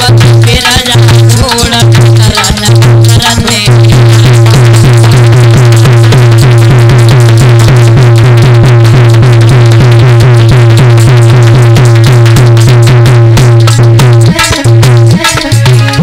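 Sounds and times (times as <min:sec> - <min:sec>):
dholak drumming fast beat: 0:00.0 - 0:16.0
harmonium drone: 0:00.0 - 0:16.0
metal percussion: 0:00.0 - 0:16.0.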